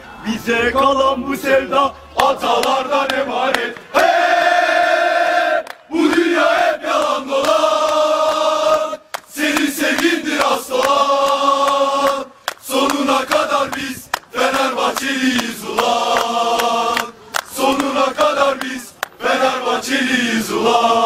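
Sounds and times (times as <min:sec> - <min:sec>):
men chanting in unison: 0:00.2 - 0:21.0.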